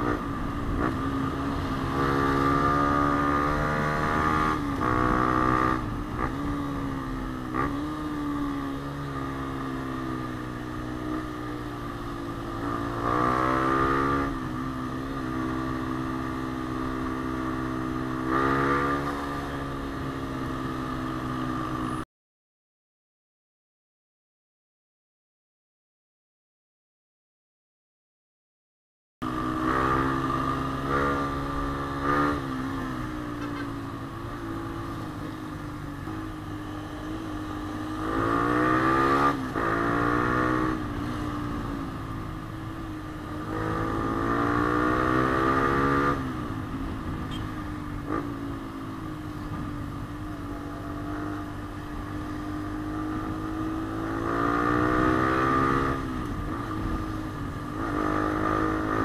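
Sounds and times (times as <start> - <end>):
motorcycle engine revving: 0.0 - 22.0, 29.2 - 59.0.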